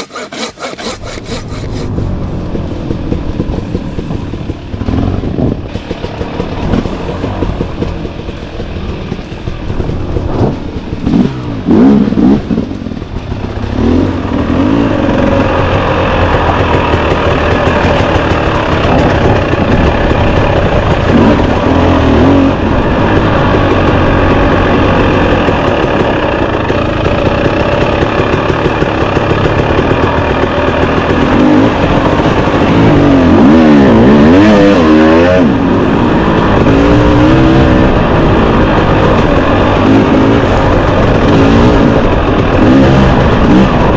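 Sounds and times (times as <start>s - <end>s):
dirt bike engine revving: 0.0s - 2.4s, 9.8s - 43.9s.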